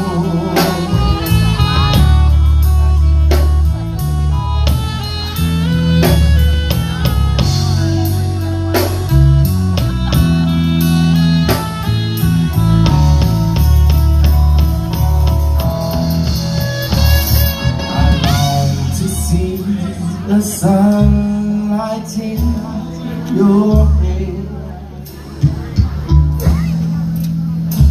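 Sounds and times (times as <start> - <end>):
bass: 0.0 - 27.9
drum kit: 0.0 - 27.9
guitar lines: 0.0 - 27.9.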